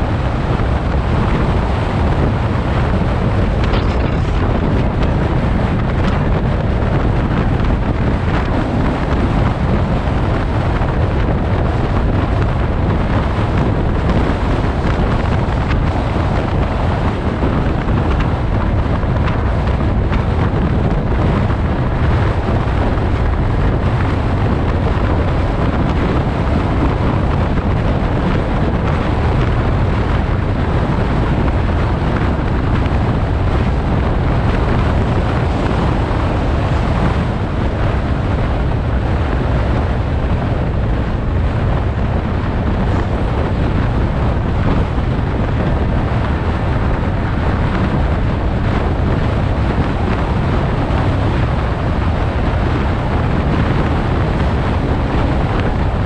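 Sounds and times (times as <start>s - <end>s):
wind roar on microphone: 0.0s - 56.0s.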